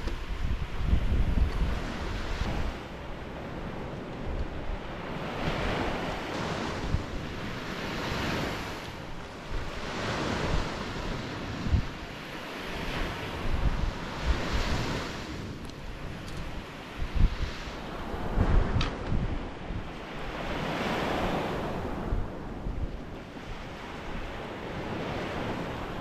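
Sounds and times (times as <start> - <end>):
waves breaking on shore: 0.0 - 26.0
wind buffeting microphone: 0.0 - 26.0.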